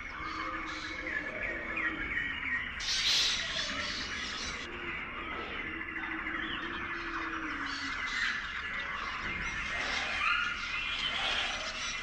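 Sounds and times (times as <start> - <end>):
many birds chirping: 0.0 - 12.0.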